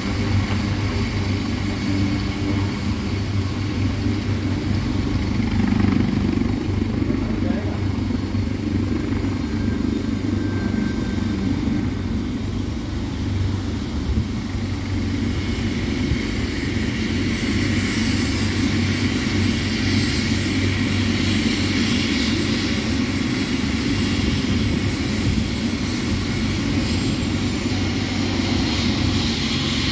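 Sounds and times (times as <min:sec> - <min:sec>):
helicopter turbine whine: 0:00.0 - 0:29.9.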